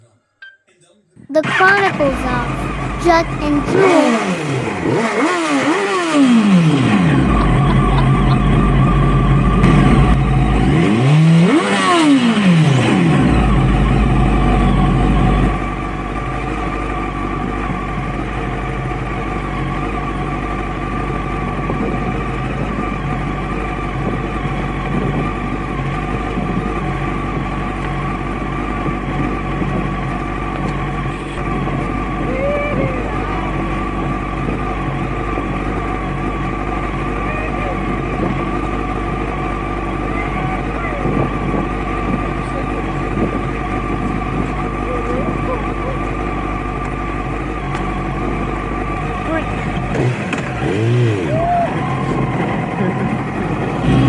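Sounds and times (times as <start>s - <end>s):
motorcycle engine revving: 1.4s - 54.0s
wind and road noise: 1.9s - 54.0s.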